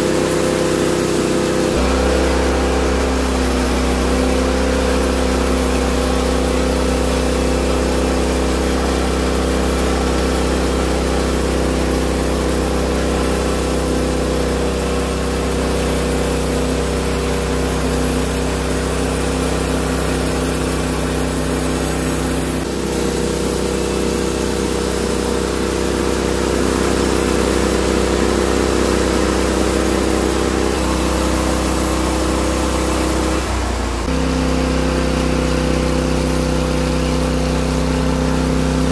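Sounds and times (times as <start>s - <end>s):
band sawmill engine running: 0.0s - 38.9s.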